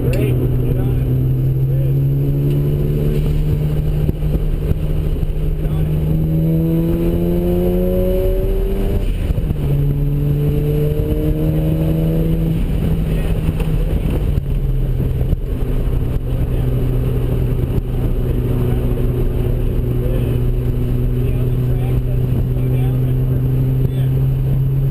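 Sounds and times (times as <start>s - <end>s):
rotary engine revving: 0.0s - 24.9s.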